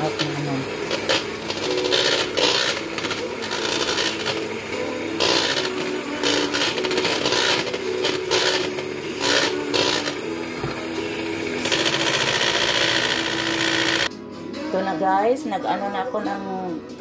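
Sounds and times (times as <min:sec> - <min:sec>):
electric hand mixer running: 0:00.0 - 0:14.1.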